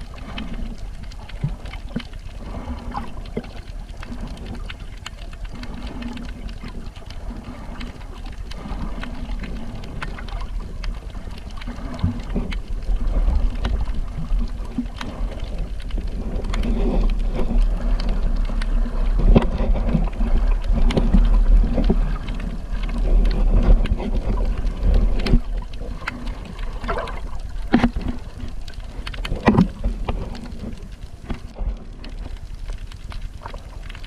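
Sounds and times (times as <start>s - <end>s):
boat engine rumble: 0.0s - 34.0s
water splashing: 0.0s - 34.0s.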